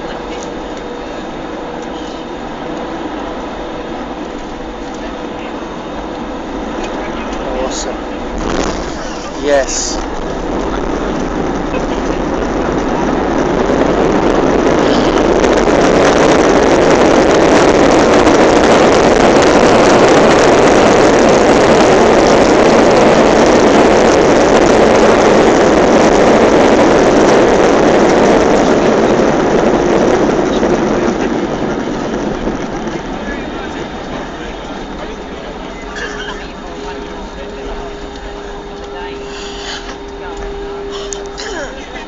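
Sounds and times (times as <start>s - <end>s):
jet engines roaring in reverse thrust: 0.0s - 42.0s.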